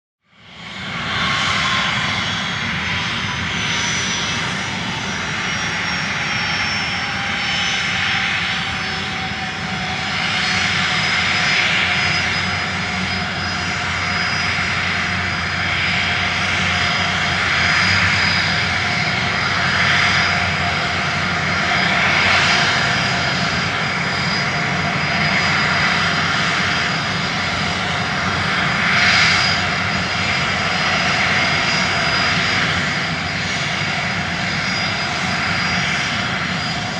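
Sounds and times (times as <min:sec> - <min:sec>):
airplane engines droning: 0:00.2 - 0:36.9.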